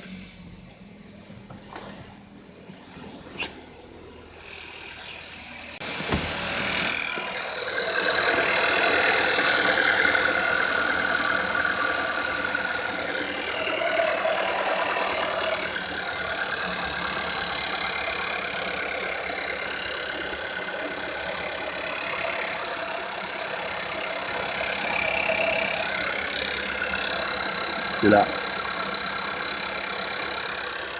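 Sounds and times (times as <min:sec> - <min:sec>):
car engine starting: 0:00.0 - 0:30.9
idling engine rattling clatter: 0:03.6 - 0:30.9.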